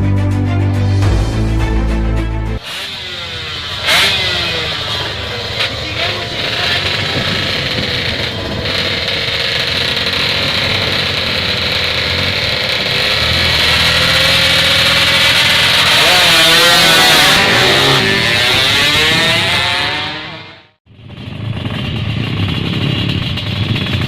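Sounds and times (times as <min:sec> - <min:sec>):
motorcycle engine idling and revving: 0:02.6 - 0:24.0.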